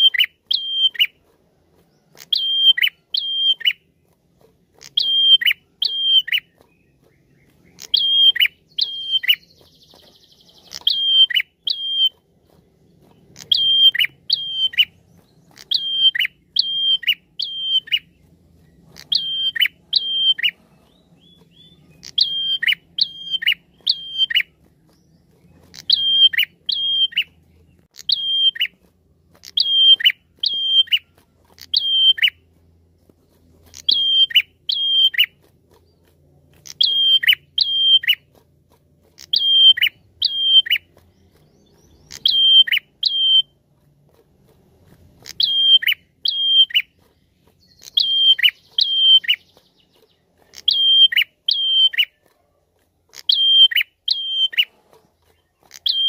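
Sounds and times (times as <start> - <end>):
caged bird calling: 0.0 - 56.0.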